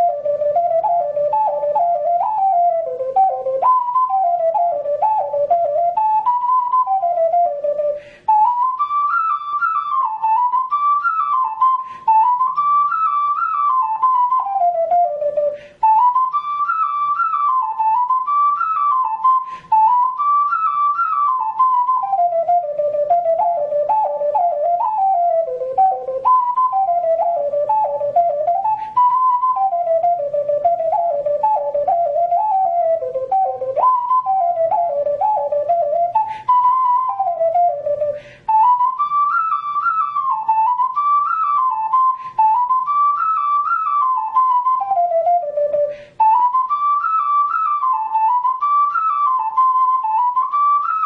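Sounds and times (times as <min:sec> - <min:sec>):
ocarina playing a jig: 0:00.0 - 0:51.0.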